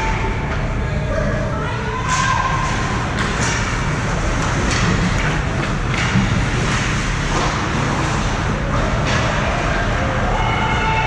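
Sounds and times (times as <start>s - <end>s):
low rumble of rink: 0.0s - 11.0s.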